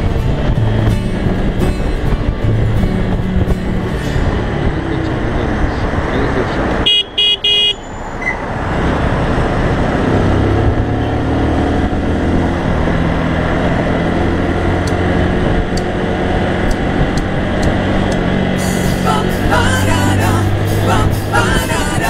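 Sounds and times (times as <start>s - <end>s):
motorcycle engine running: 0.0s - 7.8s, 9.3s - 22.0s
wind and road noise: 0.0s - 22.0s.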